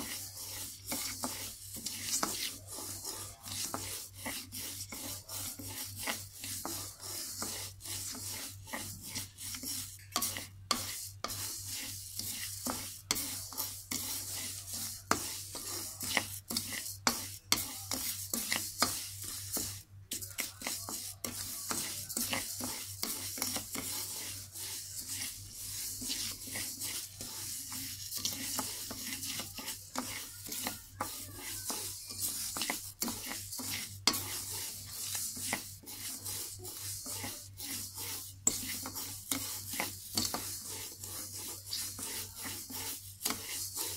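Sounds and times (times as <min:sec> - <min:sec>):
spatula scraping rice in wok: 0:00.0 - 0:43.9.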